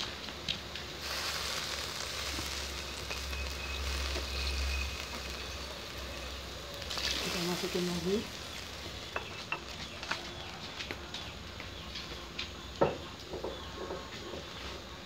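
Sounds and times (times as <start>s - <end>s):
spice paste sizzling in a wok: 0.0s - 15.0s.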